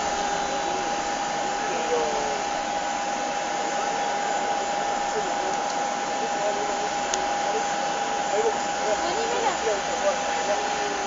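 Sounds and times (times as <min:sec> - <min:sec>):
jet engine rush and whine: 0:00.0 - 0:11.0.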